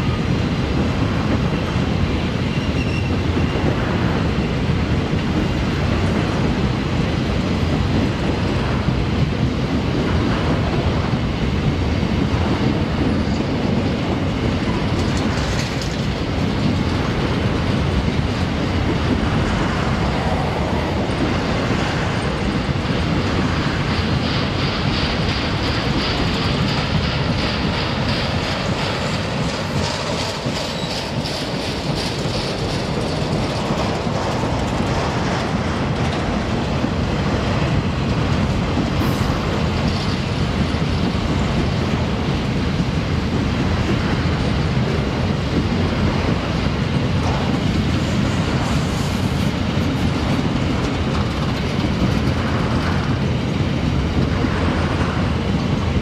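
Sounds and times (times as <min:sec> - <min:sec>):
freight train wheels rumbling: 0:00.0 - 0:56.0
train wheels clacking: 0:00.0 - 0:56.0.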